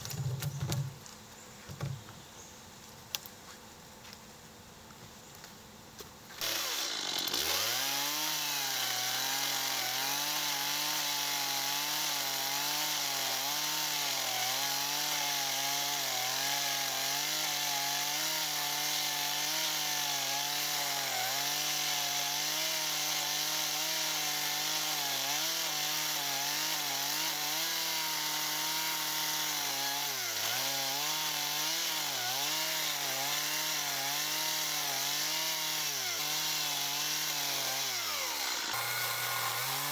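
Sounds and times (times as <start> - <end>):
chainsaw cutting wood: 6.3 - 39.9.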